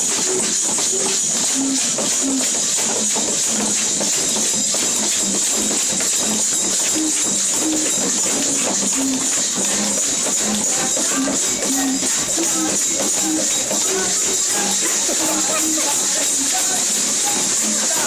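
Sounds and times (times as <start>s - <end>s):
homemade shakers rattling: 0.0s - 18.0s.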